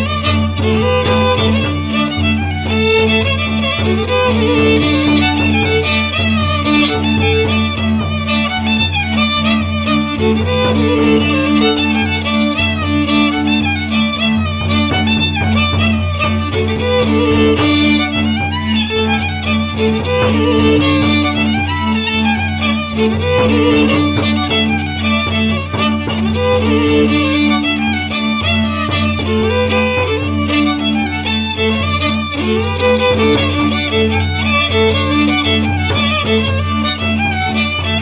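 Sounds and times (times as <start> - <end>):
fiddle playing dance melody: 0.0 - 38.0.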